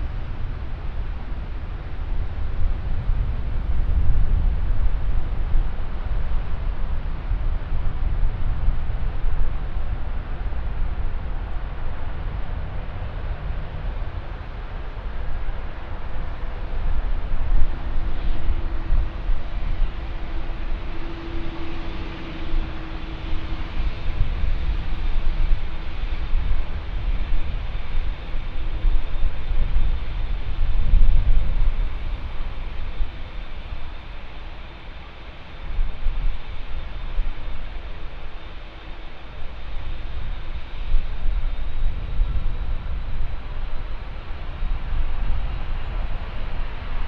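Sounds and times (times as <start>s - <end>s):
jet engines rumbling: 0.0s - 47.0s
high whine: 2.4s - 47.0s.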